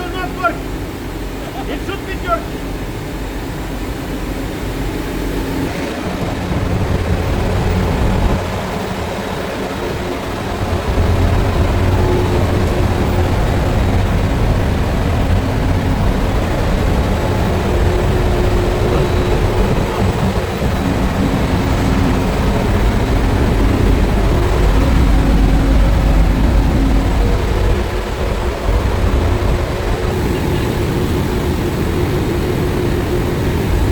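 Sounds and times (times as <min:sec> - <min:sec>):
ship engine room drone: 0:00.0 - 0:33.9.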